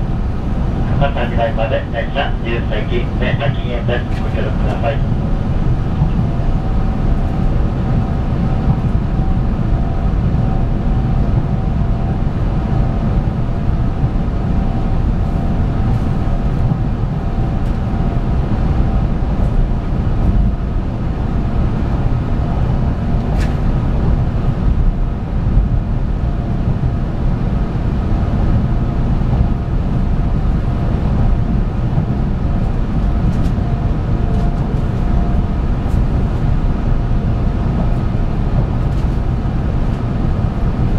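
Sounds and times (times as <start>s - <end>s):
train wheels rumbling on track: 0.0s - 40.9s.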